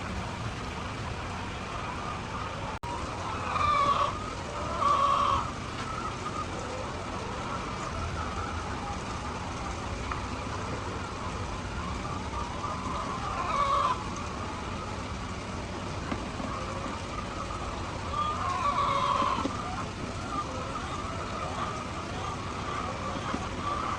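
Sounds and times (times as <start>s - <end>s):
chickens calling: 0.0s - 23.9s
steady background hiss: 0.0s - 23.9s.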